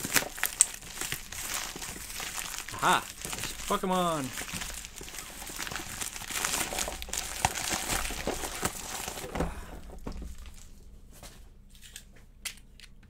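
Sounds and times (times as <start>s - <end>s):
plastic bag crinkling and tearing: 0.0s - 10.8s.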